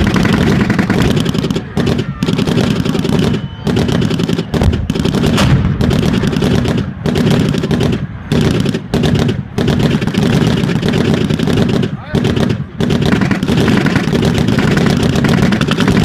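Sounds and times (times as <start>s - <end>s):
machine-gun fire: 0.0s - 16.0s.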